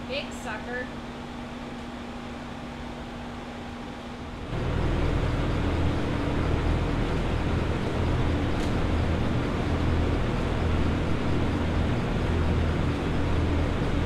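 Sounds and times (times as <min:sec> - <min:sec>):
steady machinery hum: 0:00.0 - 0:14.0
deep machine noise: 0:02.4 - 0:14.0.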